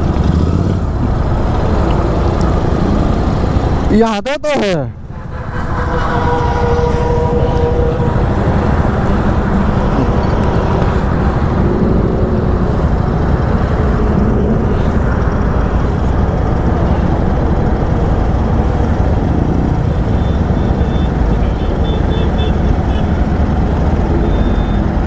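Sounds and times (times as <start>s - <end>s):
motorcycle engine: 0.0s - 3.9s, 4.9s - 25.0s
wind and road noise: 0.0s - 25.0s.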